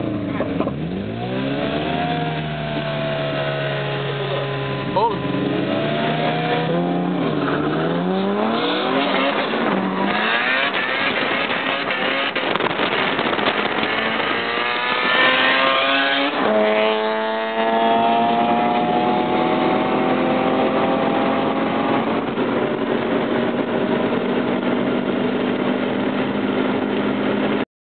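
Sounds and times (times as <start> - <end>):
car engine accelerating: 0.0 - 27.6.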